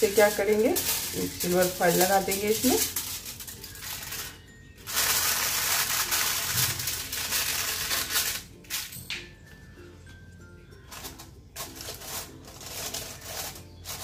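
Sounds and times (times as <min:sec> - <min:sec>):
aluminium foil crinkling: 0:00.0 - 0:09.0, 0:10.8 - 0:14.0.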